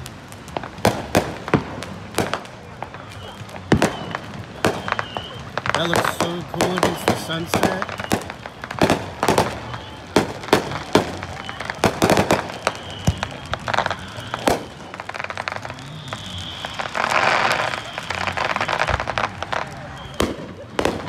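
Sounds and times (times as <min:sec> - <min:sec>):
fireworks bangs and pops: 0:00.0 - 0:21.0
fireworks crackling: 0:00.0 - 0:21.0.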